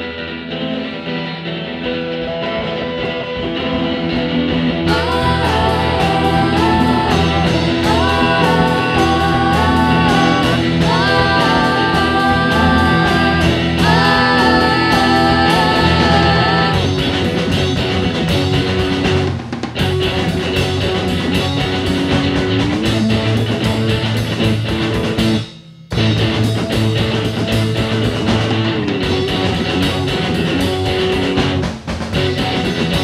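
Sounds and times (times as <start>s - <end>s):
drums: 0.0s - 33.0s
electric guitar: 0.0s - 33.0s
psychedelic rock band playing: 0.0s - 33.0s.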